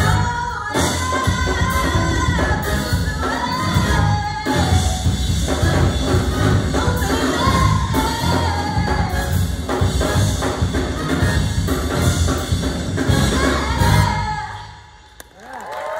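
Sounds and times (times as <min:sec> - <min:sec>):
drum kit: 0:00.0 - 0:15.2
big band playing: 0:00.0 - 0:15.6.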